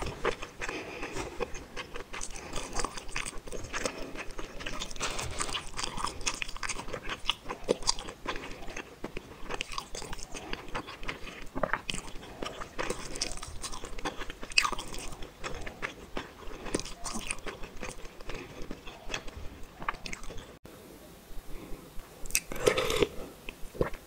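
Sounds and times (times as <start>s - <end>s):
person chewing food: 0.0s - 20.6s, 22.2s - 24.0s.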